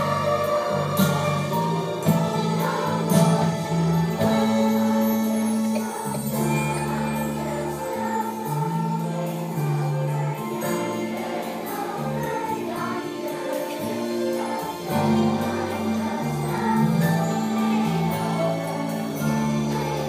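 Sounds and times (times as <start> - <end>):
children's choir singing: 0.0 - 20.0
instrumental accompaniment: 0.0 - 20.0.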